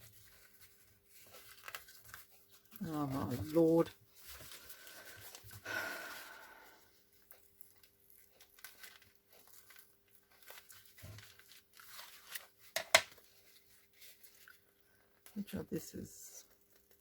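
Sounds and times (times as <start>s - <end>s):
paper rustling: 0.0s - 15.2s.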